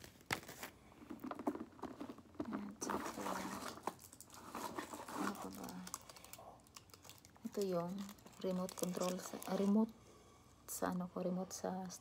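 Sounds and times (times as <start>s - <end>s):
hands rummaging through a handbag: 0.0s - 9.8s.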